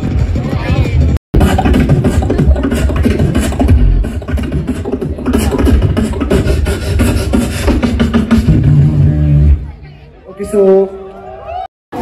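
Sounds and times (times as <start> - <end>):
beatboxing through speakers: 0.0 - 9.7.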